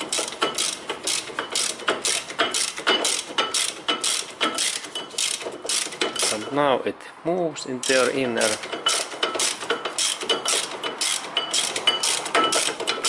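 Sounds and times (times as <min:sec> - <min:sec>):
ratchet wrench clicking: 0:00.0 - 0:06.4, 0:07.8 - 0:13.0.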